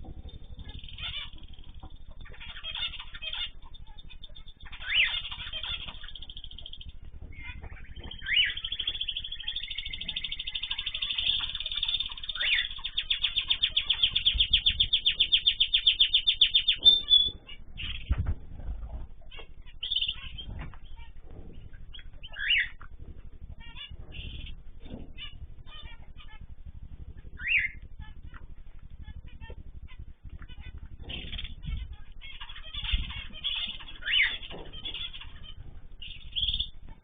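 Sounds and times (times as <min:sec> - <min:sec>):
bird fast trill: 0:00.0 - 0:37.0
small birds chirping: 0:00.0 - 0:37.0.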